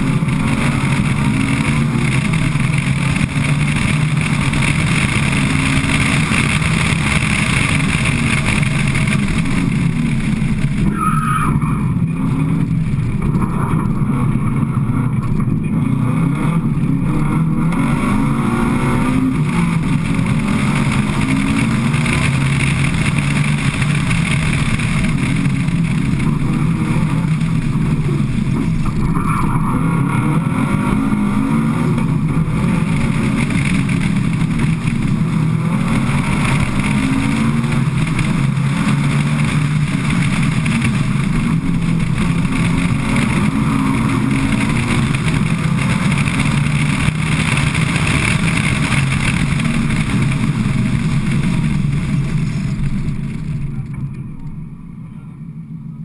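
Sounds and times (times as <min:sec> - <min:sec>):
rally car engine revving: 0:00.0 - 0:56.0
wind and road noise: 0:00.0 - 0:56.0.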